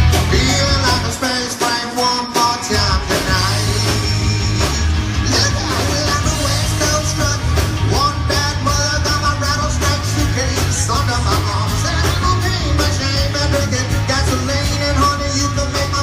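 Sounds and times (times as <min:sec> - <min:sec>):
bass guitar: 0:00.0 - 0:16.0
drums: 0:00.0 - 0:16.0
electric guitar: 0:00.0 - 0:16.0
person singing: 0:00.1 - 0:16.0.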